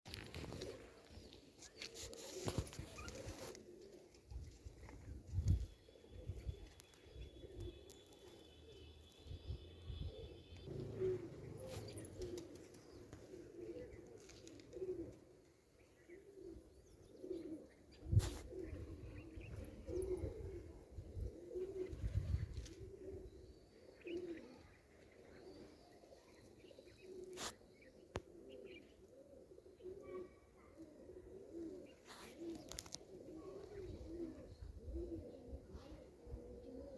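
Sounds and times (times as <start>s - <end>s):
pigeon cooing: 1.7s - 7.9s, 10.0s - 36.9s.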